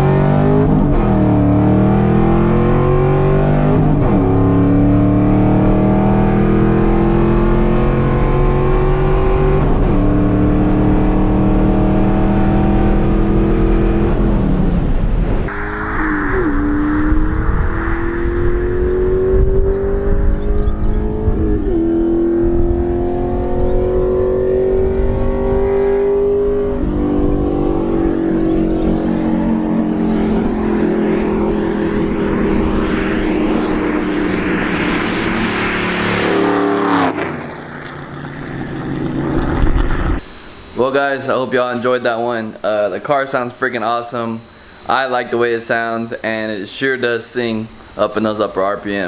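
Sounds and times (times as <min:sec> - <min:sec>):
car engine accelerating hard: 0:00.0 - 0:40.2.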